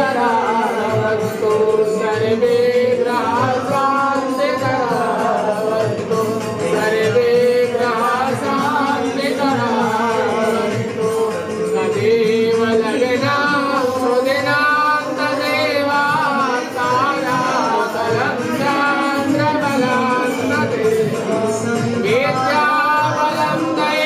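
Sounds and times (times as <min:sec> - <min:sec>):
voices singing a hymn: 0:00.0 - 0:24.0.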